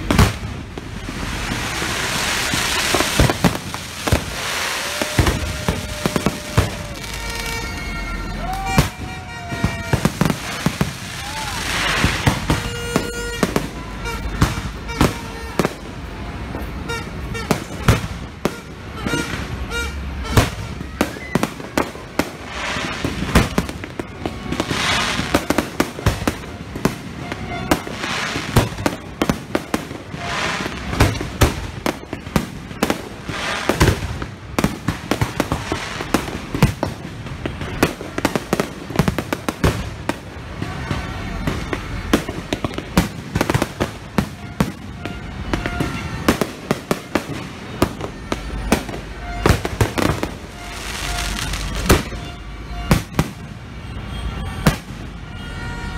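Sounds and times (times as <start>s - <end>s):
fireworks bangs: 0.0s - 55.9s
fireworks crackling: 0.0s - 55.9s.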